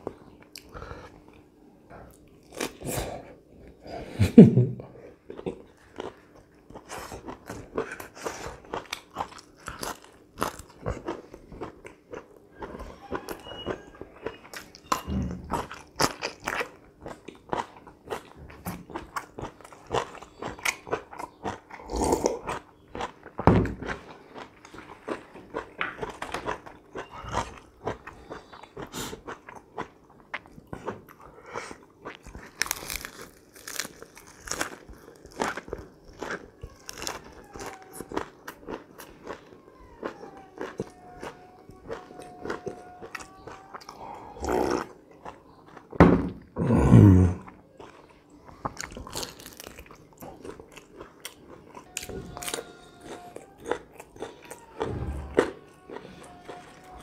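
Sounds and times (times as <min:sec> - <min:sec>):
crunchy bites and wet chewing: 0:05.3 - 0:46.5, 0:47.8 - 0:57.0.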